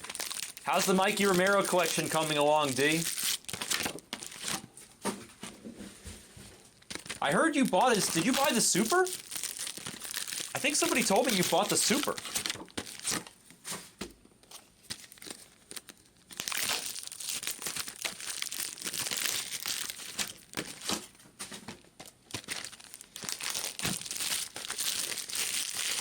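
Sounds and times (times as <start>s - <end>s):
foil wrappers crinkling and tearing: 0.0s - 4.7s, 6.7s - 13.4s, 14.6s - 21.1s, 22.0s - 26.0s.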